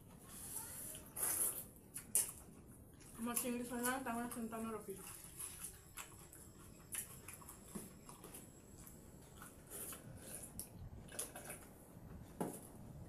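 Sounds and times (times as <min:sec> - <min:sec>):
chewing and lip smacks: 0:00.9 - 0:11.8.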